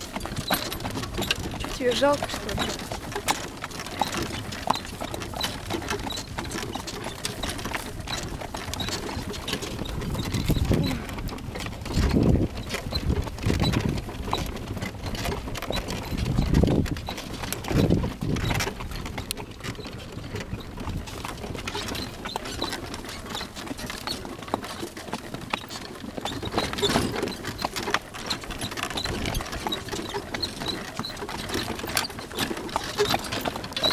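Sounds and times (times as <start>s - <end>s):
cart rattling clicks: 0.0s - 33.9s
horse hooves clip-clopping: 0.0s - 33.9s.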